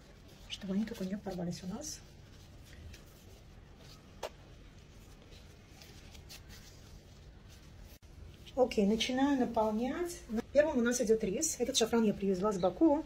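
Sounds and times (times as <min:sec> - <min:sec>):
soft rustling of bread sheets: 0:00.0 - 0:13.0.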